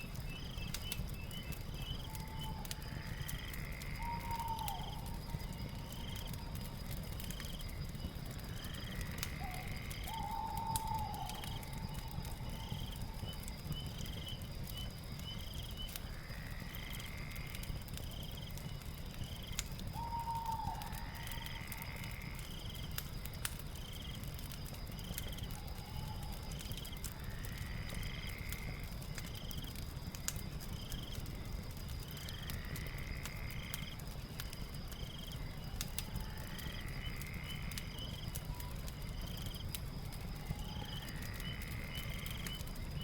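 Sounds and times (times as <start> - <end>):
fire crackling: 0.0 - 43.0
high insect drone: 2.0 - 22.8, 24.8 - 28.9, 32.2 - 43.0.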